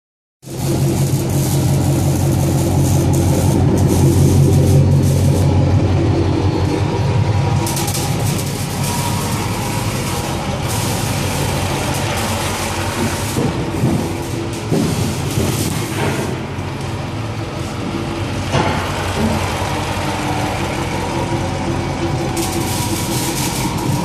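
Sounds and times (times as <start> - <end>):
car engine idling: 0.4 - 24.0.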